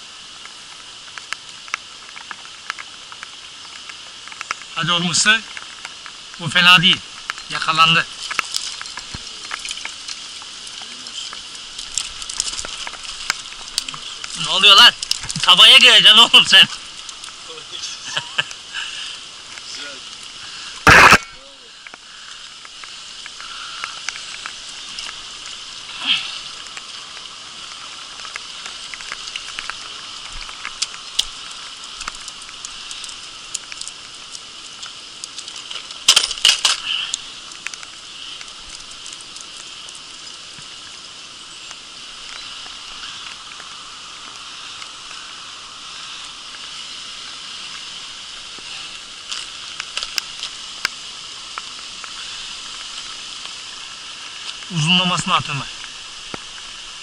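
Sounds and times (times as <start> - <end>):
rain and stream water hiss: 0.0 - 57.0
raindrop ticks: 0.1 - 57.0.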